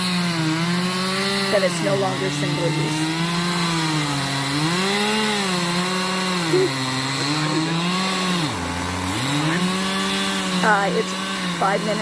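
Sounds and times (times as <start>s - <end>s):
chainsaw carving wood: 0.0s - 12.0s.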